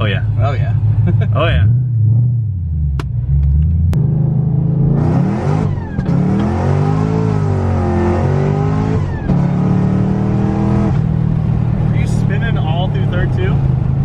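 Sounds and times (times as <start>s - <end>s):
car engine accelerating hard: 0.4s - 14.0s.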